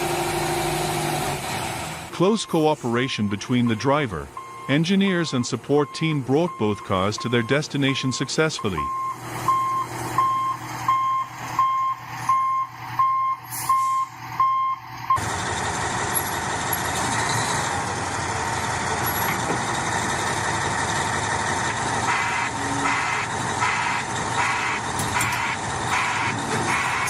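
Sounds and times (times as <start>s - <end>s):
vehicle running noise: 0.0s - 27.0s
truck reversing beeper: 2.2s - 27.0s.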